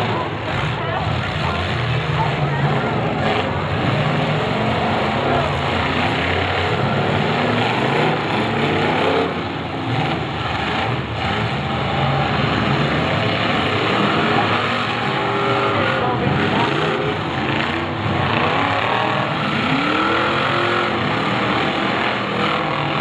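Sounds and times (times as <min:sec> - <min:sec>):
car engines revving together: 0:00.0 - 0:23.0.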